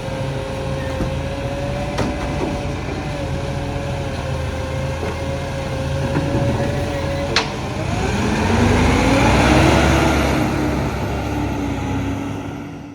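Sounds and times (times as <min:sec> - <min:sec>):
garbage truck engine whining: 0:00.0 - 0:12.9.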